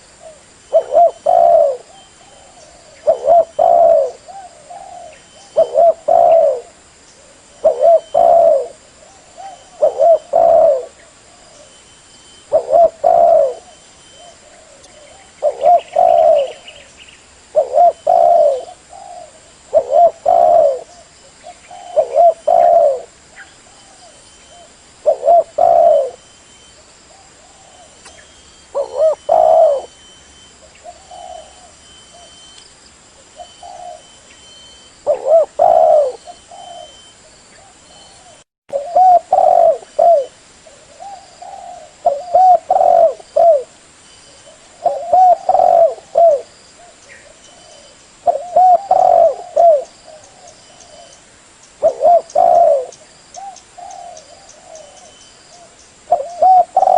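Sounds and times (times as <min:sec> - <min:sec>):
dove cooing: 0:00.0 - 0:11.7, 0:12.4 - 0:16.9, 0:17.5 - 0:26.2, 0:27.1 - 0:32.5, 0:33.2 - 0:51.2, 0:51.8 - 0:56.9.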